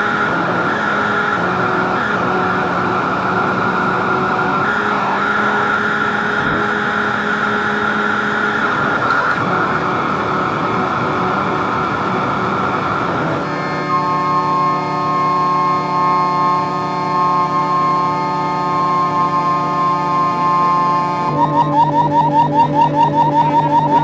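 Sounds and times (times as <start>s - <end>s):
noisy synthesizer texture: 0.0s - 24.0s
synthesizer drone: 0.0s - 24.0s.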